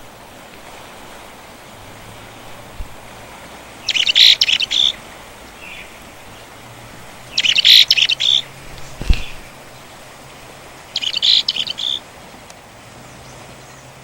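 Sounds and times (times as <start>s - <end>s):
faint steady hiss: 0.0s - 14.0s
songbird singing: 1.1s - 14.0s.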